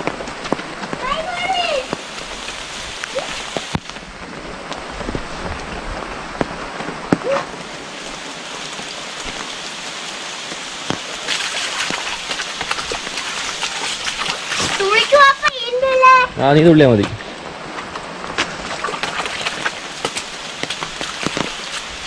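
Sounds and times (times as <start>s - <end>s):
raindrops ticking: 0.0s - 16.3s, 17.0s - 22.0s
rain falling: 0.0s - 22.0s.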